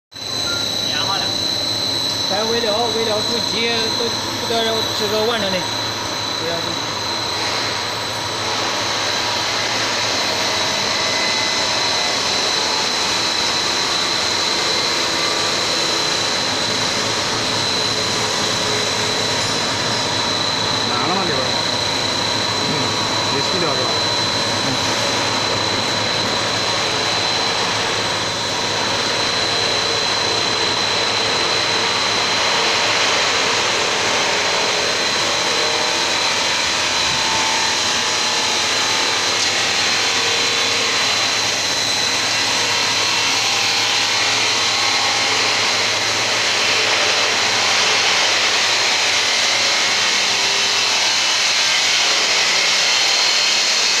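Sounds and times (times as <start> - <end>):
high machine whine: 0.1 - 54.0
machinery mechanical rush: 0.2 - 54.0.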